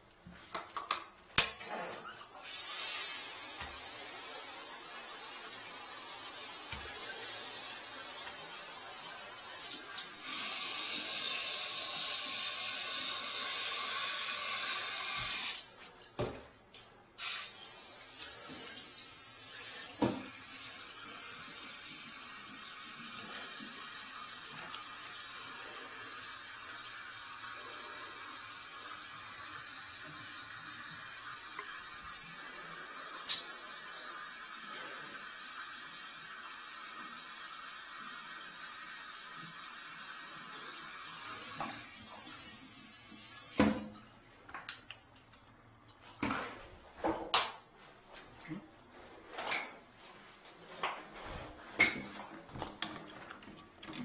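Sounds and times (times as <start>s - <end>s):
water running: 1.6s - 47.0s.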